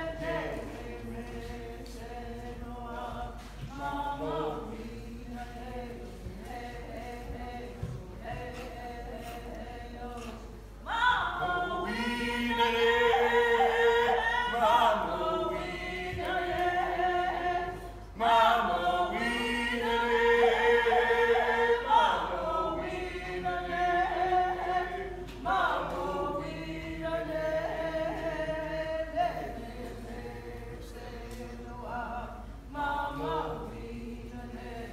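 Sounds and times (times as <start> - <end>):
group singing unaccompanied: 0.0 - 34.9.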